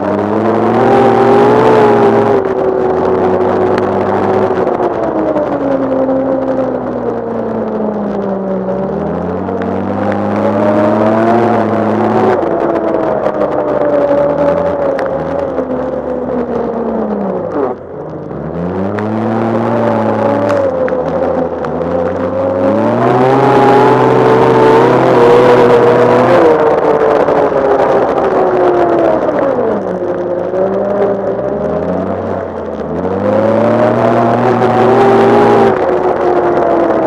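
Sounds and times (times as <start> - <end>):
snowmobile engine revving: 0.0 - 7.3, 8.4 - 37.0
rush of wind and snow: 0.0 - 37.0.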